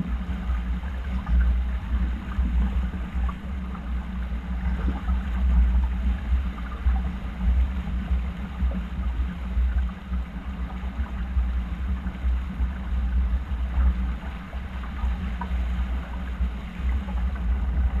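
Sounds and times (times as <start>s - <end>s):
water rushing along hull: 0.0s - 18.0s.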